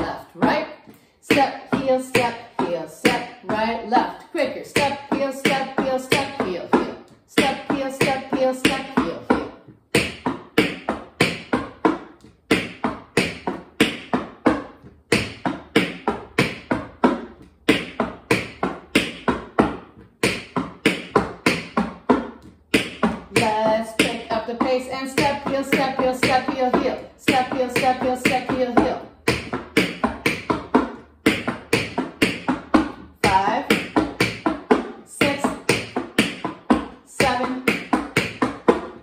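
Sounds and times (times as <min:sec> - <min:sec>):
tap shoes on hardwood floor: 0:00.0 - 0:39.0.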